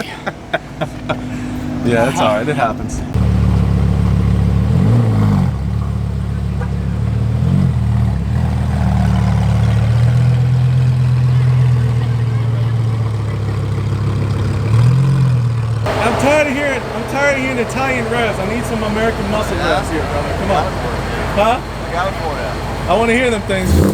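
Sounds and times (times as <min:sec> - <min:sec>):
car engine idling loudly: 0:00.0 - 0:23.9.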